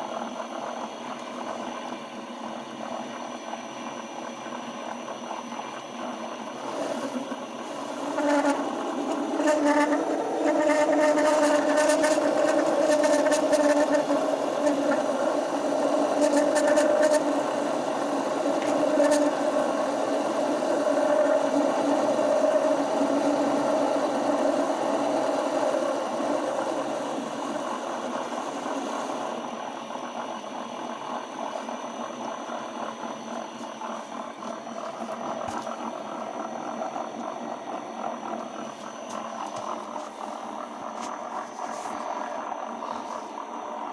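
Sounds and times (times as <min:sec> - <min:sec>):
bench lathe whirring: 0:00.0 - 0:43.9.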